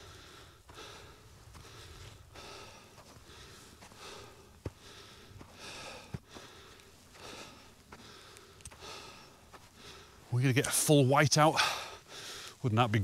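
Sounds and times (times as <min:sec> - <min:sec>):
person breathing hard: 0:00.0 - 0:10.3, 0:11.5 - 0:12.6.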